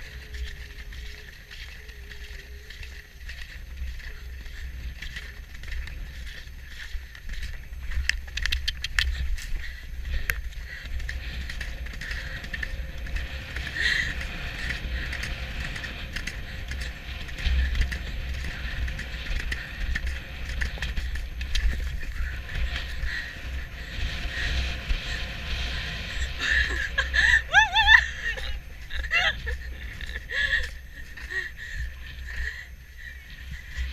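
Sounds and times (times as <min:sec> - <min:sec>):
wind rushing over microphone: 0:00.0 - 0:33.9.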